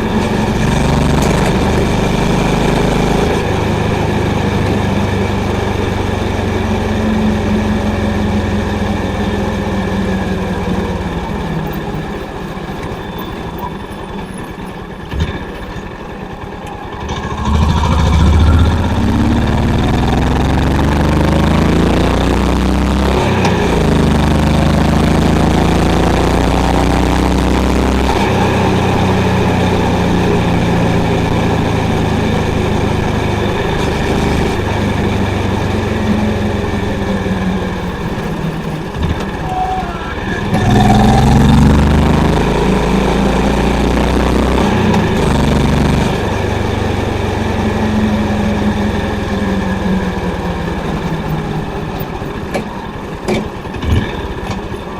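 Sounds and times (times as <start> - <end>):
motorcycle engine and exhaust: 0.0 - 54.9.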